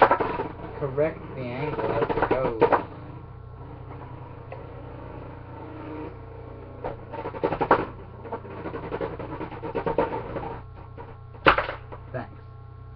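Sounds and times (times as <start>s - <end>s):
spinning top rattling on plastic: 0.0s - 12.0s.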